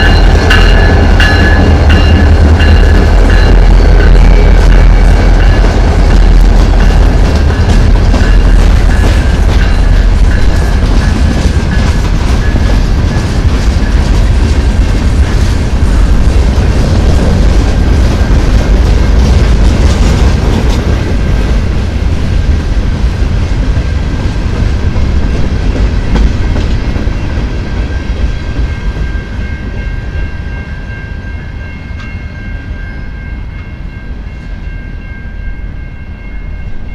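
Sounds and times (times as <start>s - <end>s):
freight train wheels on rails: 0.0s - 36.9s.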